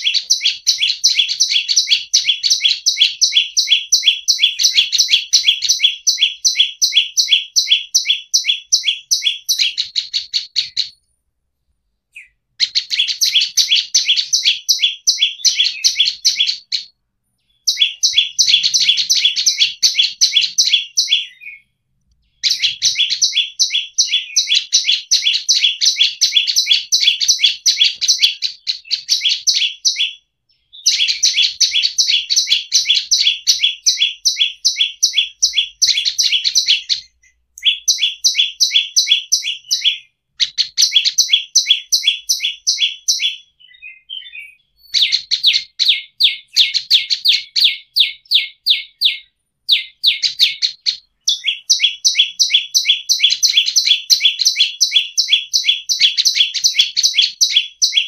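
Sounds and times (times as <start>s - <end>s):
bird singing rapid chirps: 0.0s - 11.1s, 12.1s - 58.0s.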